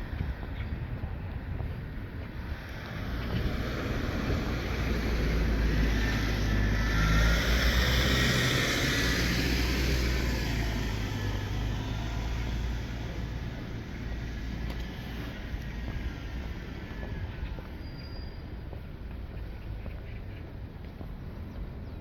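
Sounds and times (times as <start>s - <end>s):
road noise: 0.0s - 22.0s
vehicle engine hum: 0.0s - 22.0s.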